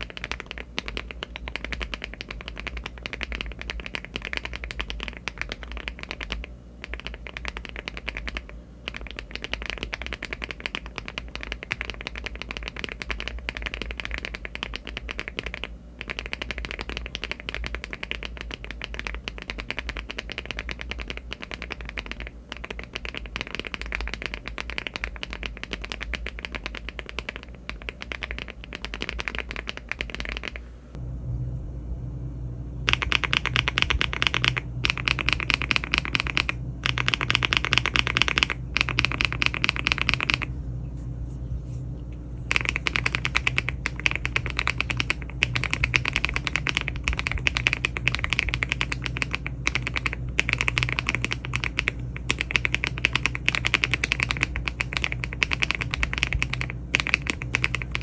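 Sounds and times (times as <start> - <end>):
fast mechanical keyboard typing: 0.0 - 30.6, 32.9 - 40.5, 42.5 - 58.0.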